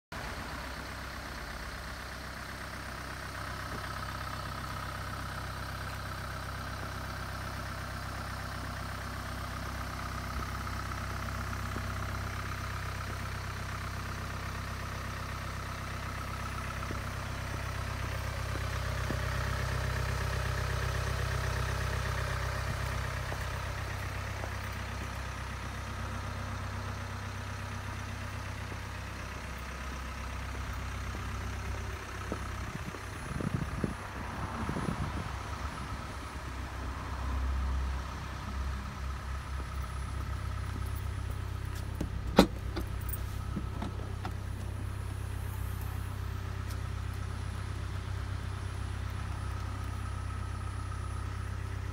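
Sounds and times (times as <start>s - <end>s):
car engine idling: 0.1s - 51.9s.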